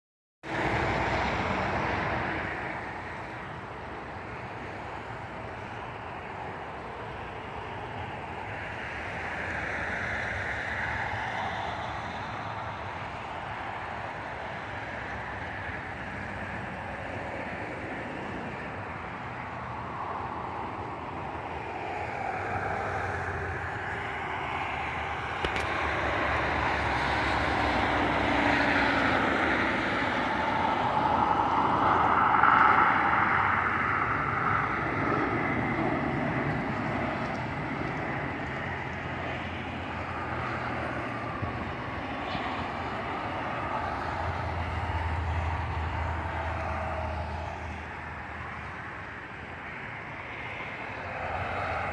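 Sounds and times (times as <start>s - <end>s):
jet airliner engines rushing: 0.4s - 51.9s.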